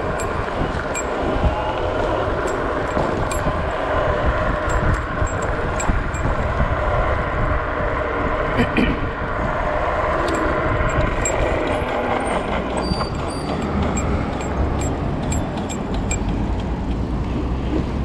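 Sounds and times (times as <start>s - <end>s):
wind and tyre rumble: 0.0s - 18.0s.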